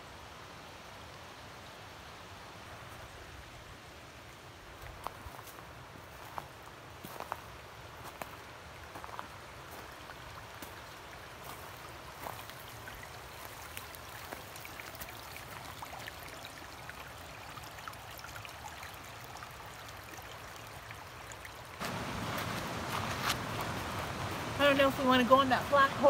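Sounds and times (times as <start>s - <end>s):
creek trickling over rocks: 0.0s - 26.0s.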